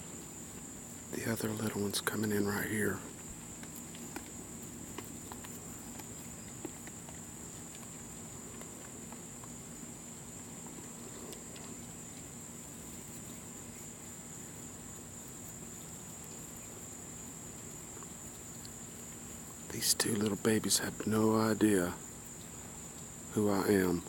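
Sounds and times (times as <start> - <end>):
faint low hum: 0.0 - 24.0
insects trilling: 0.0 - 24.0.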